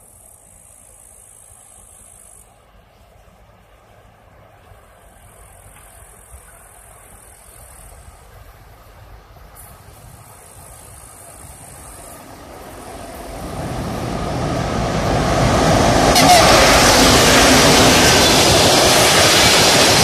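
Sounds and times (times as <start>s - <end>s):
diesel locomotive rumble: 2.8s - 20.0s.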